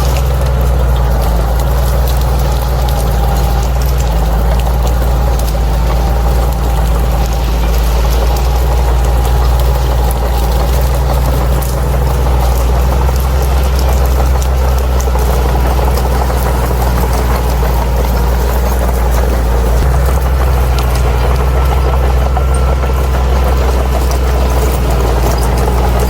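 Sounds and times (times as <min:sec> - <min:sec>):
bulldozer diesel engine droning: 0:00.0 - 0:26.0.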